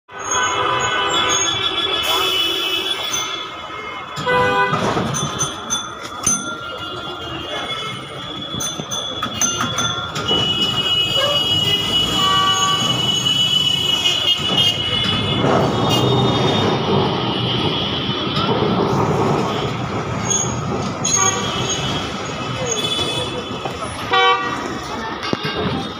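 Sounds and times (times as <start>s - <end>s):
high wheel squeal: 0.1s - 18.1s, 19.3s - 24.9s
tram rumbling on rails: 0.1s - 25.9s.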